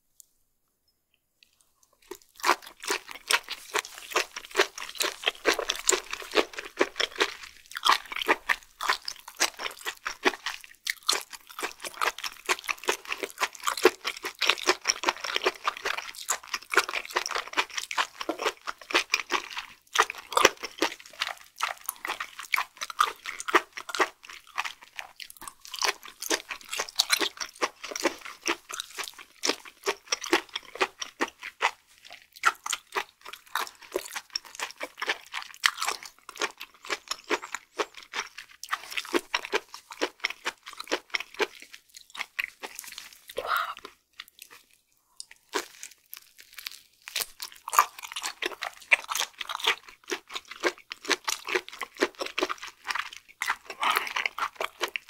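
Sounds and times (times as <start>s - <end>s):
chewing with wet mouth clicks: 1.4s - 55.0s.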